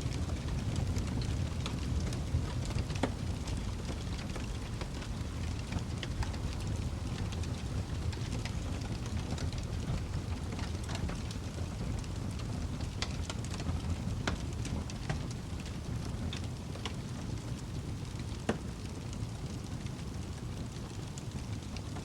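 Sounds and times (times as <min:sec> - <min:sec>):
fire crackles and pops: 0:00.0 - 0:22.0
wood fire burning: 0:00.0 - 0:22.0.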